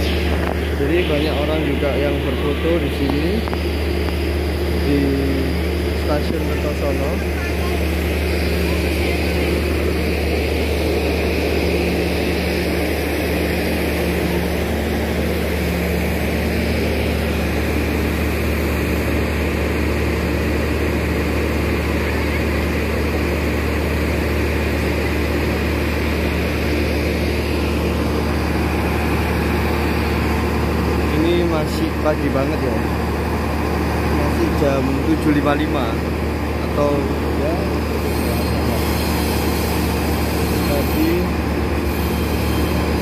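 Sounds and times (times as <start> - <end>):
diesel generator drone: 0.0 - 43.0.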